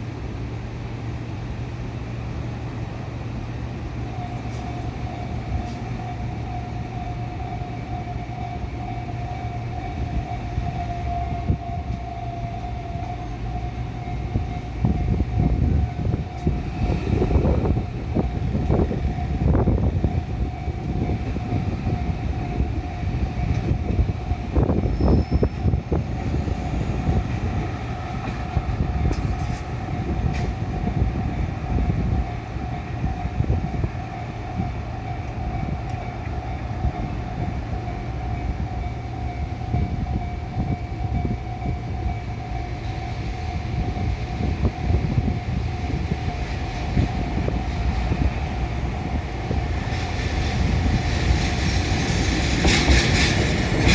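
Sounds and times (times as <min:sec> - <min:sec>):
locomotive engine and wheels rumbling: 0:00.0 - 0:53.9.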